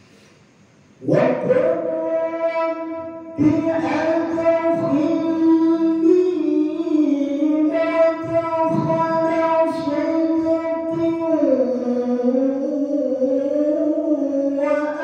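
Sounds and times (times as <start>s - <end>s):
man reciting melodically: 1.0s - 15.0s.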